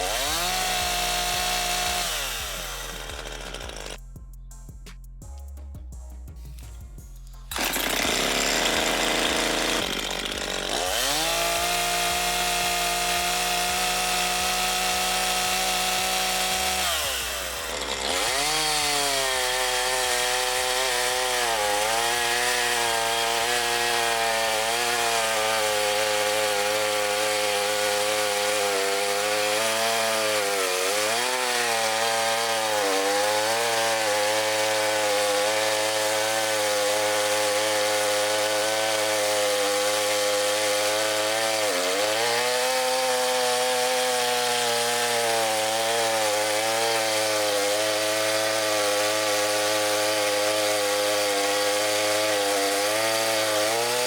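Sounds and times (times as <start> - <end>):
chainsaw engine revving: 0.0 - 4.0, 7.5 - 54.0.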